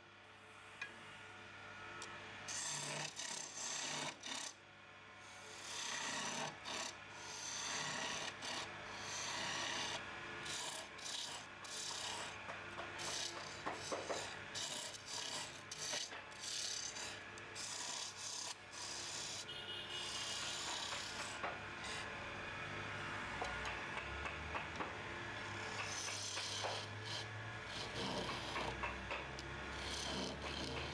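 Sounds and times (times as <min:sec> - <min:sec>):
chisel shaving wood on lathe: 0:02.5 - 0:04.5, 0:05.5 - 0:19.5, 0:20.1 - 0:30.9.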